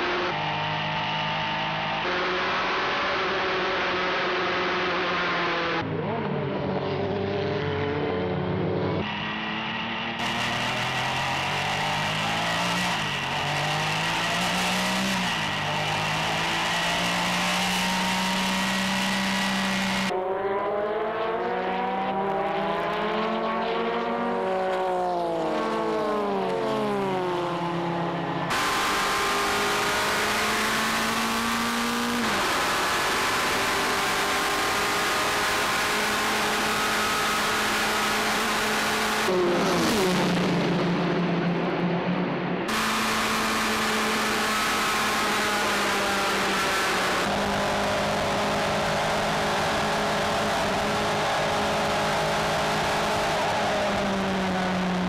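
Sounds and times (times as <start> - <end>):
race car engines at high revs: 0.0 - 55.0.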